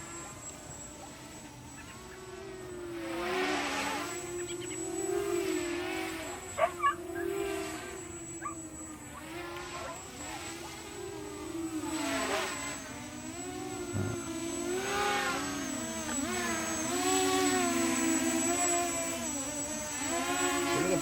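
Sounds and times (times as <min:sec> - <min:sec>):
quadcopter motors buzzing: 0:00.0 - 0:21.0.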